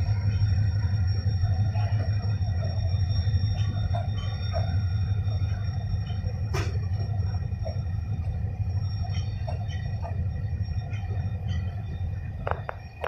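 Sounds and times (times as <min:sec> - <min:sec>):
faint high whines: 0:00.0 - 0:13.0
low rumble of trains: 0:00.0 - 0:13.0.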